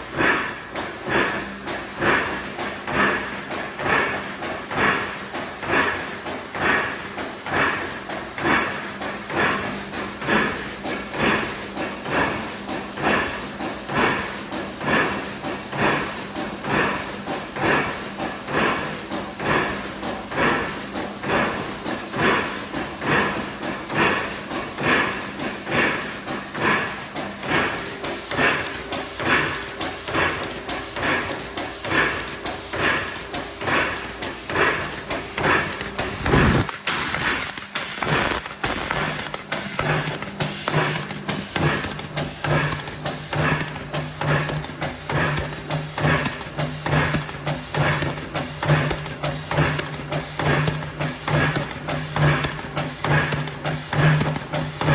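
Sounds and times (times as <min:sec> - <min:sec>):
filling machine rhythmic clatter: 0:00.0 - 0:54.9.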